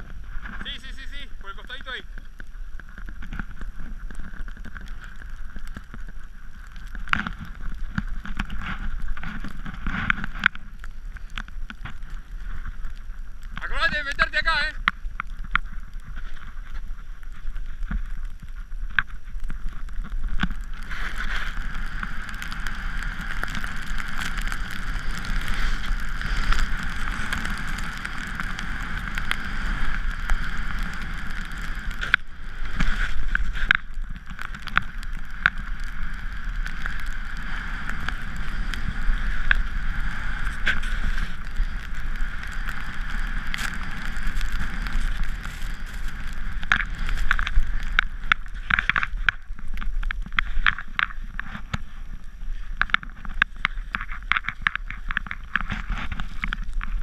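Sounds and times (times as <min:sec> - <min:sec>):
sliding over snow: 0:00.0 - 0:57.0
wind rushing over microphone: 0:00.0 - 0:57.0.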